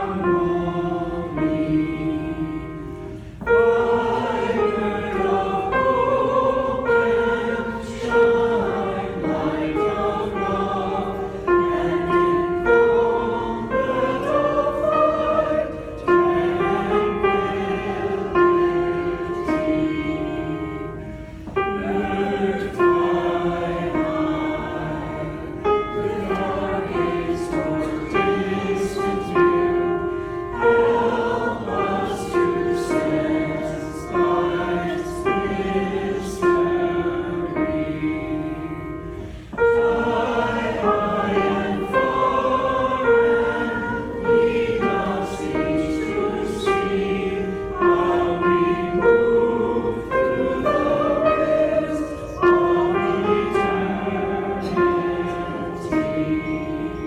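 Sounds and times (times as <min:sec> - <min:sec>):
group singing a slow hymn: 0:00.0 - 0:57.0.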